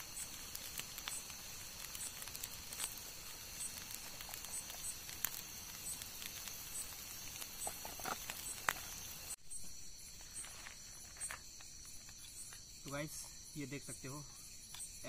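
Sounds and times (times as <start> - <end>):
eggs sizzling in a pan: 0.0 - 12.8
crickets chirping: 0.0 - 15.0.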